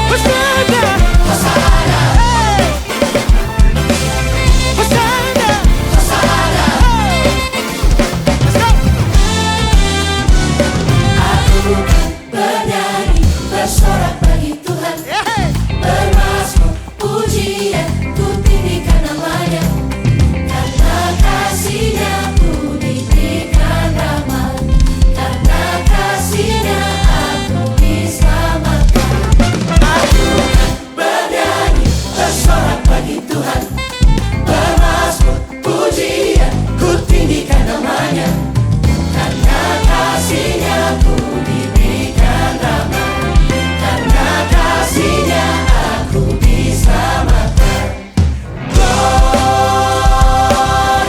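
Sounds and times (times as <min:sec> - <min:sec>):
choir singing praise song: 0:00.0 - 0:51.0
full band playing: 0:00.0 - 0:51.0.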